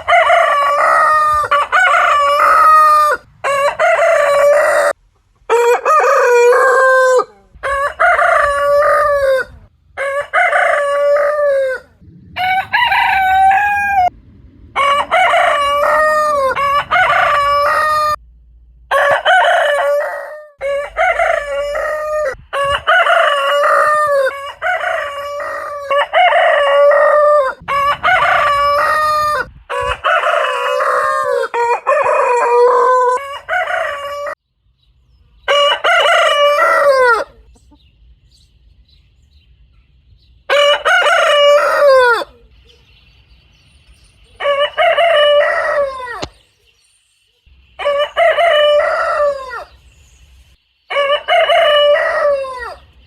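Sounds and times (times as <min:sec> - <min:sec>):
roosters crowing: 0:00.0 - 0:18.2, 0:18.9 - 0:34.4, 0:35.4 - 0:37.7, 0:40.5 - 0:42.6, 0:44.3 - 0:46.5, 0:47.6 - 0:50.2, 0:50.9 - 0:53.0.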